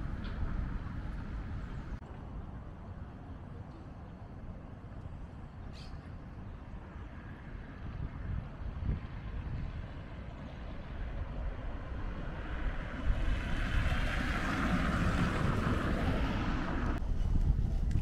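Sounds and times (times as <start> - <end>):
low street rumble: 0.0 - 18.0.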